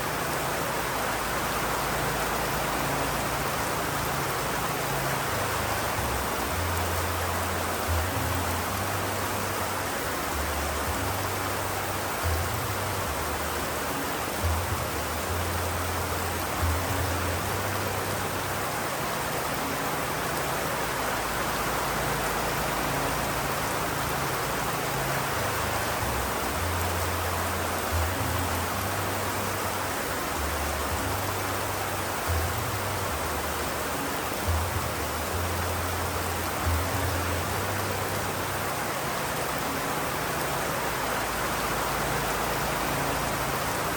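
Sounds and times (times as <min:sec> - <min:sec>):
rain hiss: 0:00.0 - 0:43.9.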